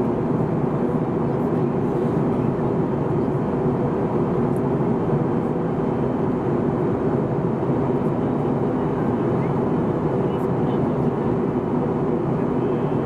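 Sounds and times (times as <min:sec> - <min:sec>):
airliner cabin noise in flight: 0:00.0 - 0:13.0.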